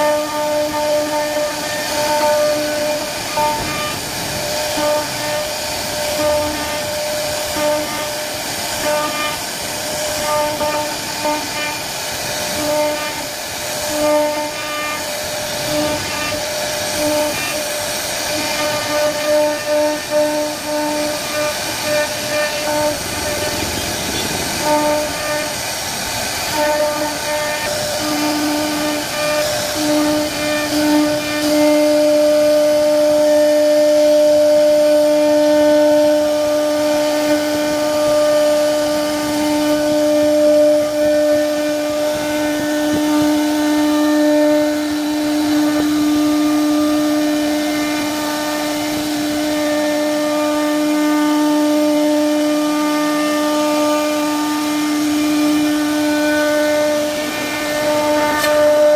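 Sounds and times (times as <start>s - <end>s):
machine spindle whining: 0.0s - 58.9s.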